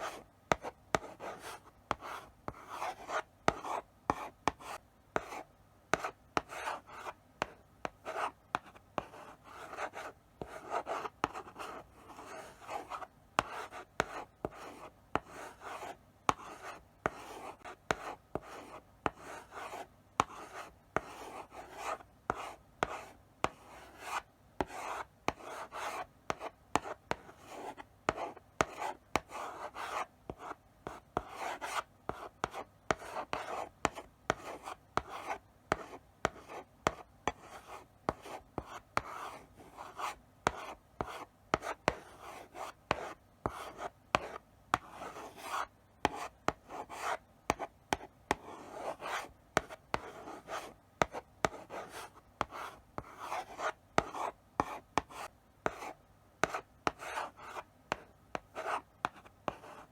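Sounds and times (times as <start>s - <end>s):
chalk scratching on blackboard: 0.0s - 7.5s, 8.1s - 59.9s
chalk tapping on board: 0.5s - 39.2s, 39.9s - 59.9s.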